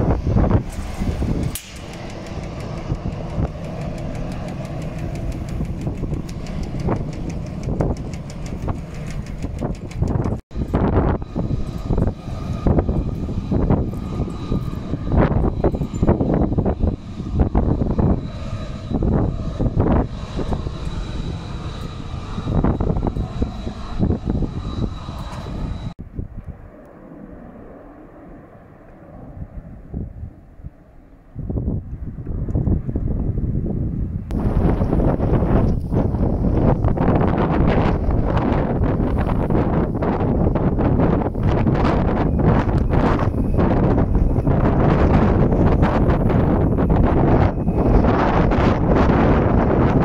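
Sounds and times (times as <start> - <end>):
jet engines rumbling: 0.0 - 50.0
wind buffeting microphone: 0.0 - 50.0.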